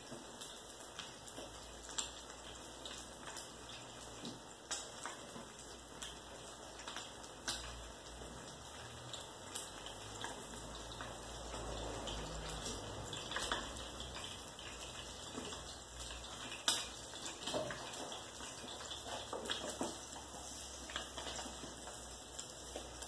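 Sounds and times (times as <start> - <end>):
egg frying hiss: 0.0 - 23.0.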